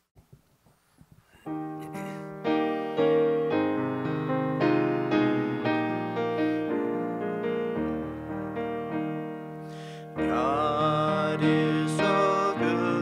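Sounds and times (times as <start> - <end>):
piano playing chords: 1.4 - 13.0.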